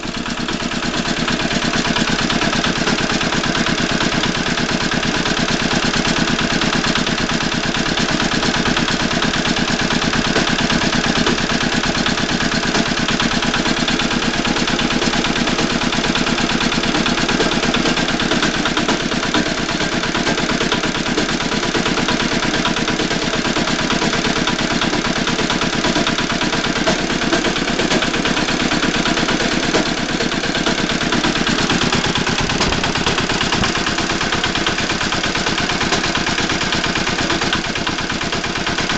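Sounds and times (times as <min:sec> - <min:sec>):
walk-behind tractor engine running: 0:00.0 - 0:38.9.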